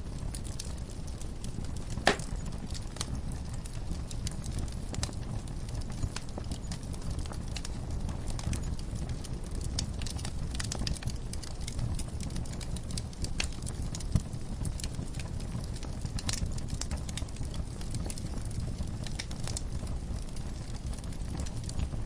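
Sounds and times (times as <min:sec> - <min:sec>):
fire crackling and popping: 0:00.0 - 0:22.0
wood fire burning: 0:00.0 - 0:22.0.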